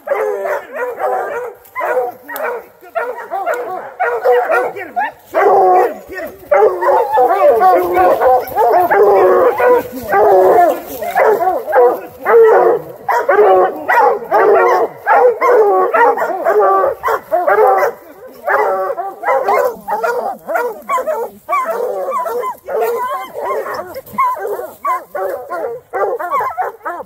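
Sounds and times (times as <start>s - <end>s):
hounds barking and bawling: 0.0s - 27.0s.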